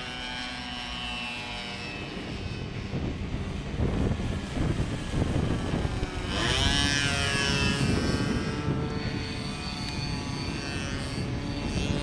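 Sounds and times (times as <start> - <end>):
model airplane engine at high throttle: 0.0 - 12.0.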